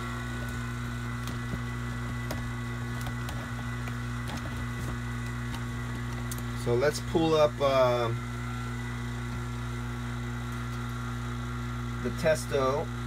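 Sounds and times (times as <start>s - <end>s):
thin whine: 0.0s - 13.0s
vacuum pump humming: 0.0s - 13.0s.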